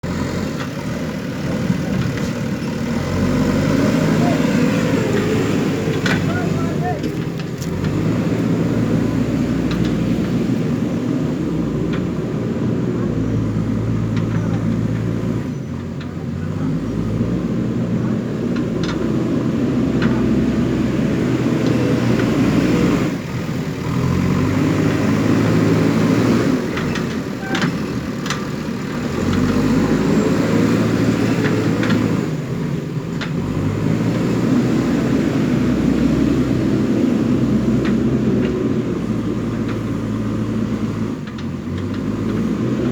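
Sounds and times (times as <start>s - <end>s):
diesel engine under hydraulic load: 0.0s - 42.9s.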